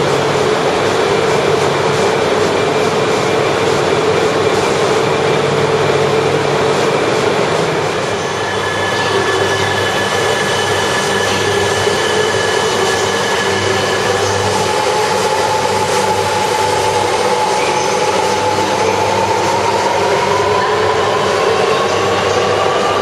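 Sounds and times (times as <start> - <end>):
thin whine: 0.0 - 23.0
train rumbling in station: 0.0 - 23.0.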